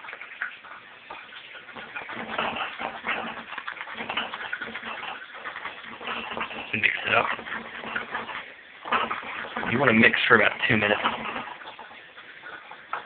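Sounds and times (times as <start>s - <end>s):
shaving brush churning soap lather: 0.0s - 13.0s.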